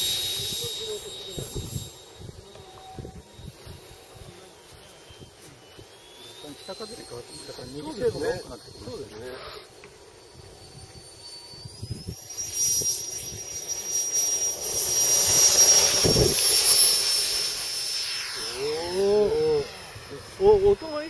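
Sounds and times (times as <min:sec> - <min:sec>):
electric ducted fan whine: 0:00.0 - 0:21.0.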